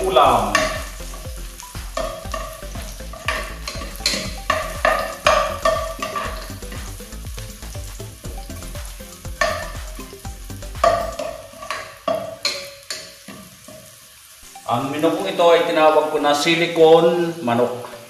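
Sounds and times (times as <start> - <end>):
garlic sizzling in hot oil: 0.0 - 18.0.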